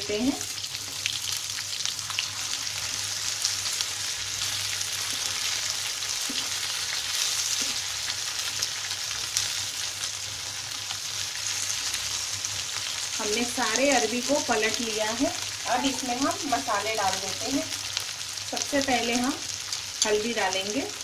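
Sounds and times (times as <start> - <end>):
oil sizzling in a wok: 0.0 - 21.0.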